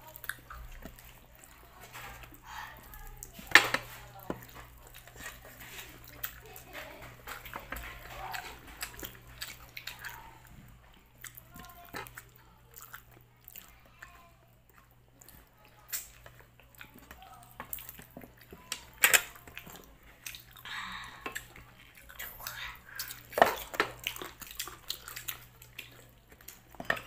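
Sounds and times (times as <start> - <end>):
chewing and lip-smacking: 0.0 - 27.0.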